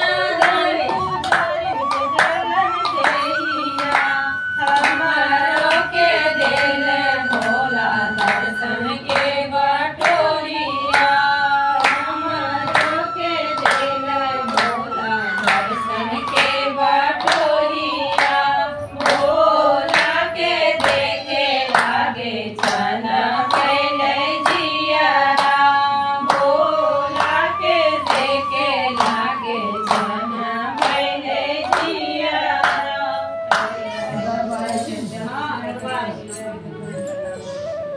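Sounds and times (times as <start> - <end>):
rhythmic hand claps: 0.0 - 35.1
women singing in unison: 0.0 - 36.9.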